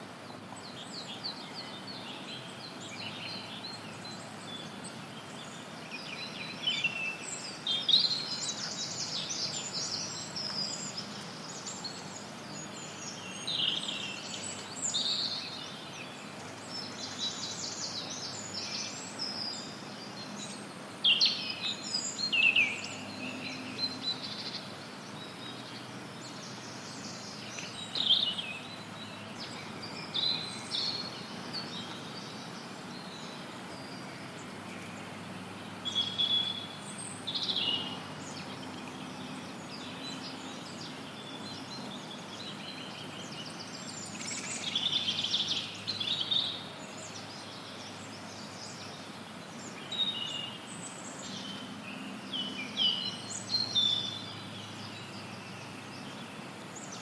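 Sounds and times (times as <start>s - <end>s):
forest birds singing and chirping: 0.0s - 57.0s
white noise hiss: 0.0s - 57.0s.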